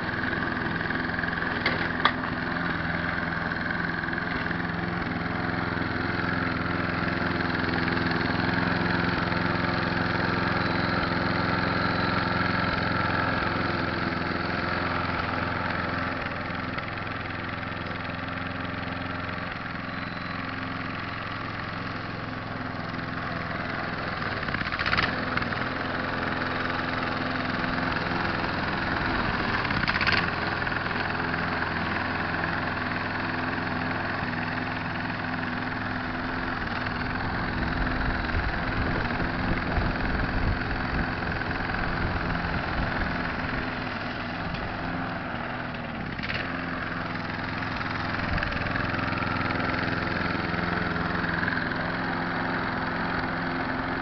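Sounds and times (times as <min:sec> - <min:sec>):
lawn mower engine cutting grass: 0:00.0 - 0:54.0.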